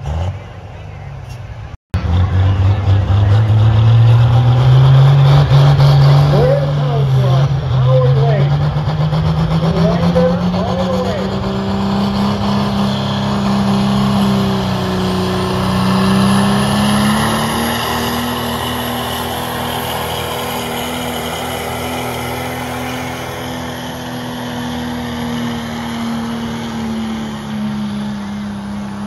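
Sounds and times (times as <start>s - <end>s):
truck engine running under load: 0.0s - 29.0s.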